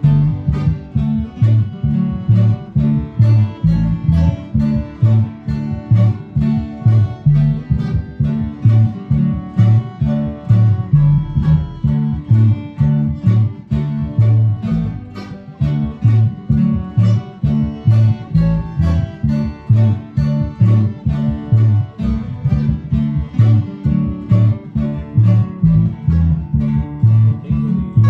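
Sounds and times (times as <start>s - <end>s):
acoustic guitar strumming: 0.0s - 28.0s
bluegrass string band playing: 0.0s - 28.0s.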